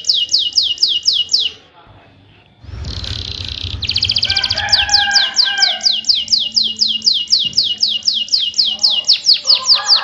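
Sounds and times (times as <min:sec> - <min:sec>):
canary singing trills: 0:00.0 - 0:01.7, 0:02.8 - 0:10.0.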